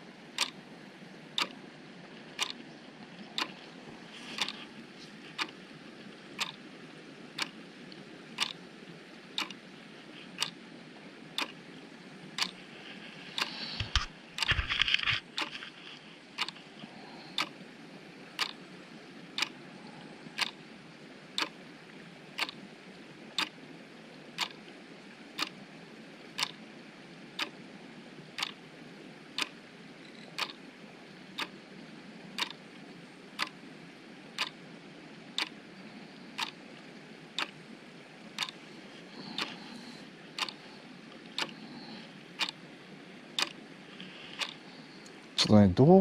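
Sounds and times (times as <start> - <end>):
low steady hiss: 0.0 - 46.0.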